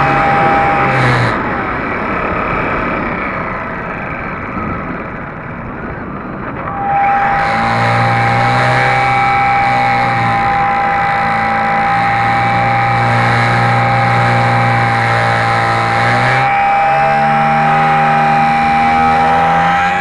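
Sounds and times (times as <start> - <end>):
electric motor and propeller whining: 0.0 - 20.0.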